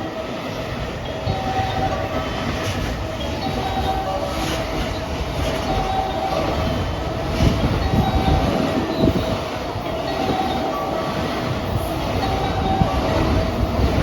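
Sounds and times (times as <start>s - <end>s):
freight train wagons rumbling: 0.0s - 14.0s.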